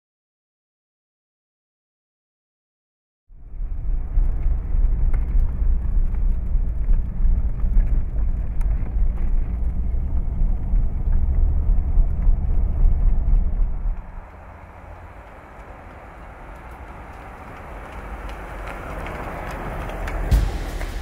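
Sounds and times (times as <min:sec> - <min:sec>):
car engine and road noise rumble: 0:03.3 - 0:21.0.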